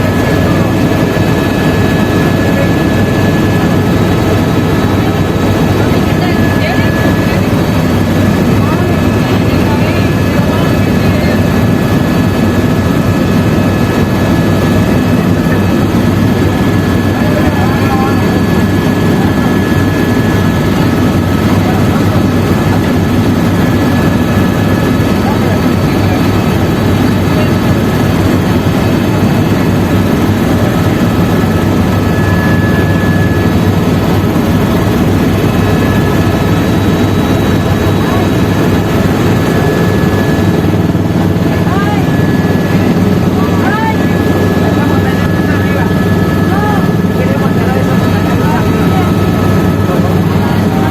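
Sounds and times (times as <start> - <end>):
helicopter engine and rotor noise: 0.0 - 50.9.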